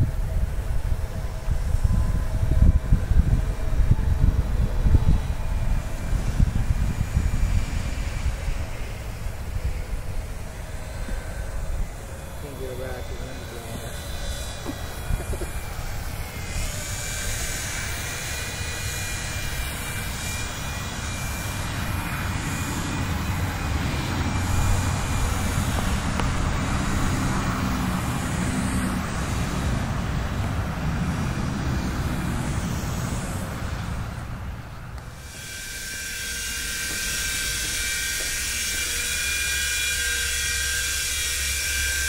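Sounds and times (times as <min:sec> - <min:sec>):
wind rumbling on microphone: 0:00.0 - 0:39.9
toy helicopter motor whine: 0:00.0 - 0:42.0.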